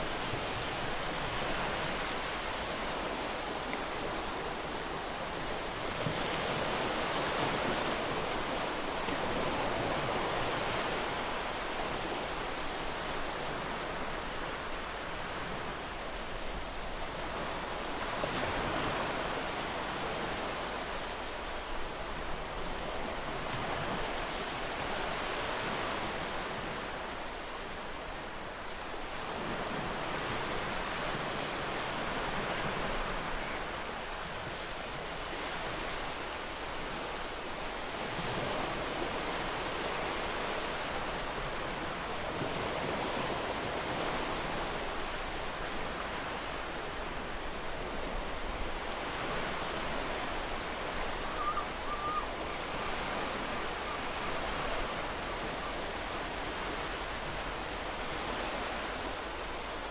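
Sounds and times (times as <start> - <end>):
ocean surf breaking on shore: 0.0 - 59.9.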